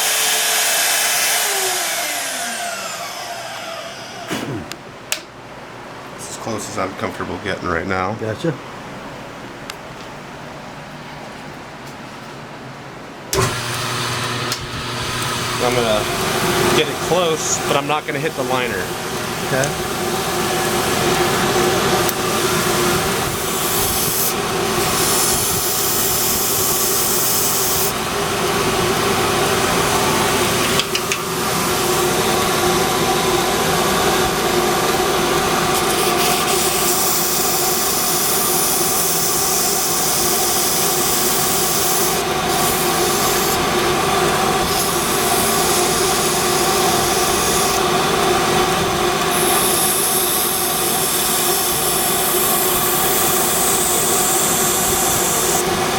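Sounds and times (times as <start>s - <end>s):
belt grinder grinding: 0.0s - 4.4s, 13.4s - 55.9s.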